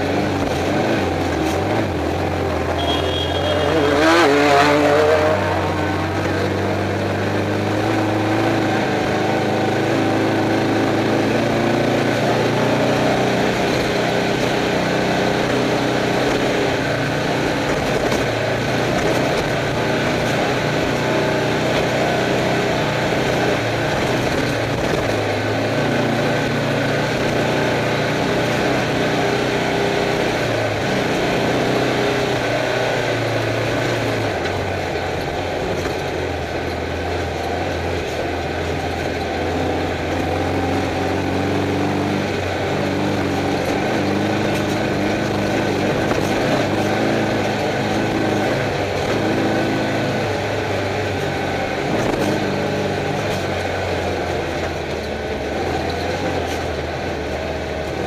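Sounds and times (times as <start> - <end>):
car engine from inside cabin: 0.0 - 58.0
steady road noise: 0.0 - 58.0.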